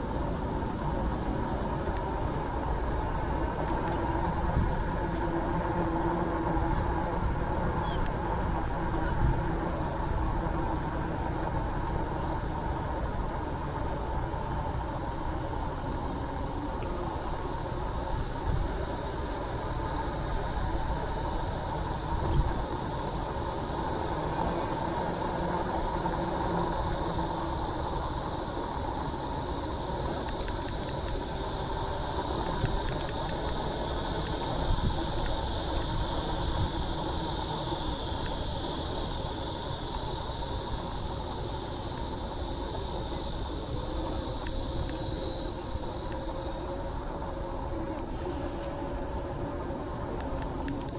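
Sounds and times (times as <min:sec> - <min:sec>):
wind and road noise from bicycle: 0:00.0 - 0:50.9.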